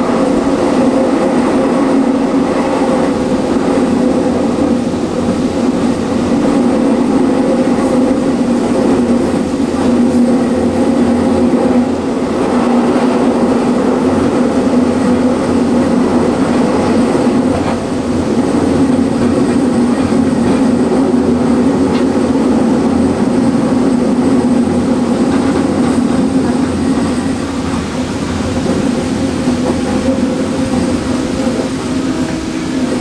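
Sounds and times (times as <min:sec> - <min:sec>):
train wheels droning on track: 0:00.0 - 0:33.0.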